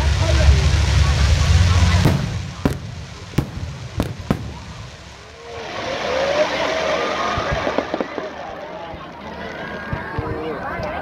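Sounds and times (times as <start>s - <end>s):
fireworks bangs: 0.0s - 9.0s
crowd voices and shouting: 0.0s - 11.0s.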